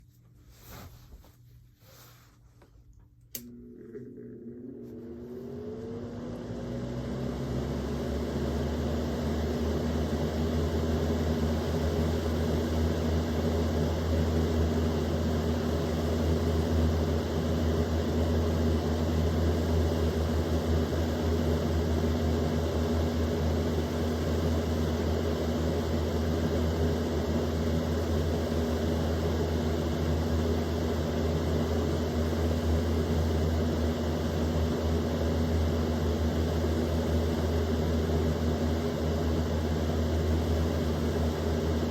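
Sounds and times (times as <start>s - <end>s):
fan motor whine and hum: 0.0s - 41.9s.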